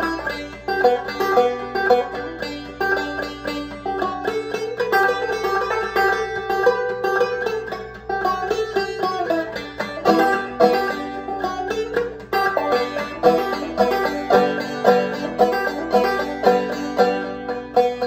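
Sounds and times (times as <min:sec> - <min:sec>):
banjo played clawhammer style: 0:00.0 - 0:18.0.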